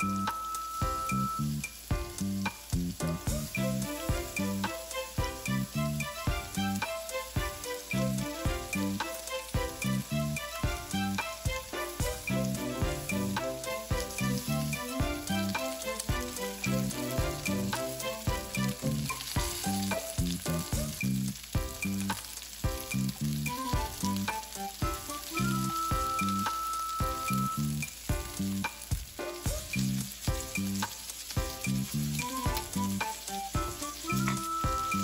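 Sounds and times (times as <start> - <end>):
background music with a beat: 0.0 - 35.0
meat sizzling in a skillet: 0.0 - 35.0.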